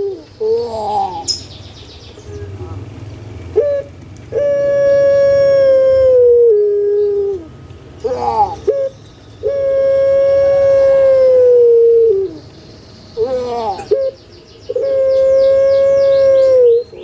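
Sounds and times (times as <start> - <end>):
dove calling: 0.0 - 17.0.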